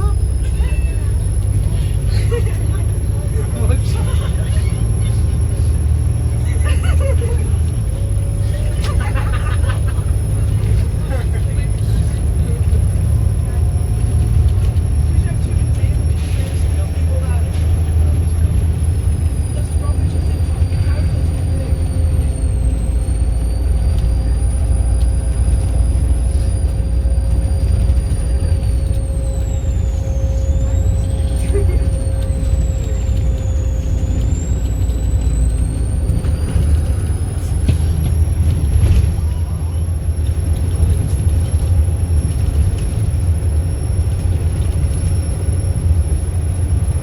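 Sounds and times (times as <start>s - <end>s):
bus diesel engine rumble: 0.0s - 47.0s.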